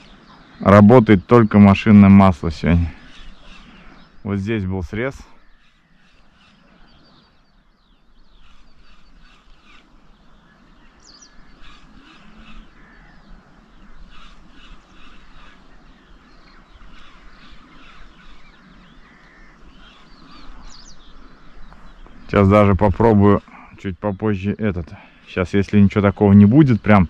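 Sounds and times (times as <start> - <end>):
bird calls: 0.0 - 27.0.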